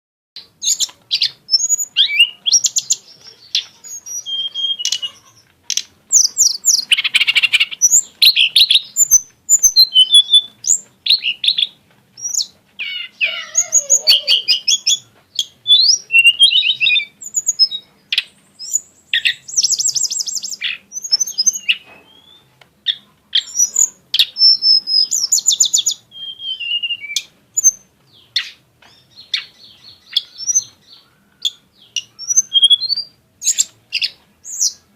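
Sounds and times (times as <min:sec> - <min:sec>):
songbird singing: 0:00.4 - 0:34.9.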